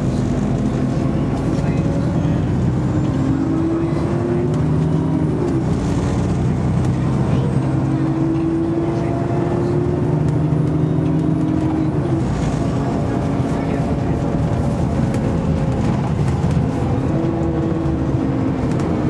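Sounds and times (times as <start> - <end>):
bus diesel engine accelerating: 0.0 - 19.0.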